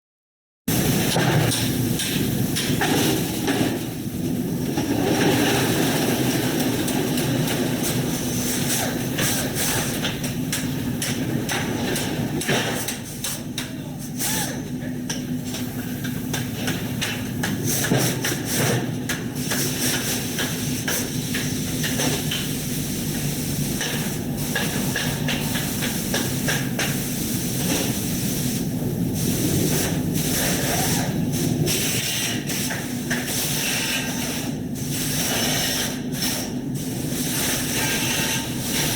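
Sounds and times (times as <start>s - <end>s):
machinery hiss and hum: 0.7s - 38.9s.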